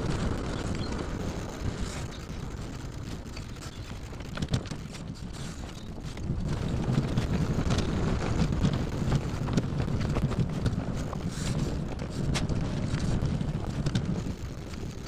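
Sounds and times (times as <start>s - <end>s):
wheeled carrier rolling on road: 0.0s - 15.0s
wind buffeting microphone: 0.0s - 15.0s
small rattles and knocks: 0.6s - 15.0s.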